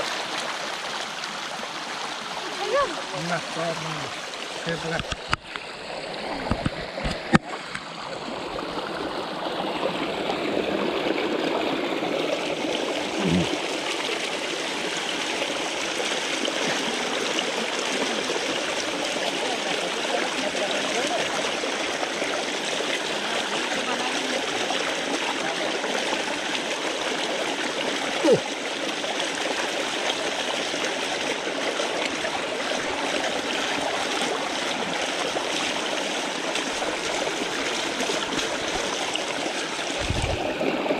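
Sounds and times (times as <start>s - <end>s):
water gushing down a channel: 0.0s - 40.9s.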